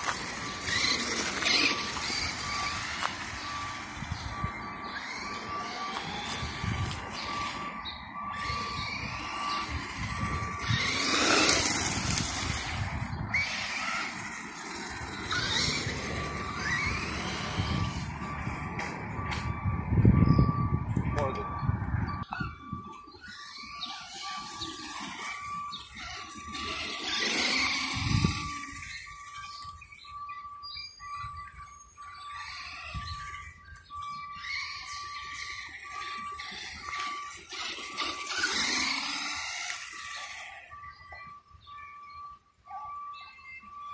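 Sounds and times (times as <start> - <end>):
toy truck electric motor whining: 0.0 - 19.6, 20.2 - 43.9
steady electronic beep: 0.0 - 43.9
street traffic: 0.0 - 43.9.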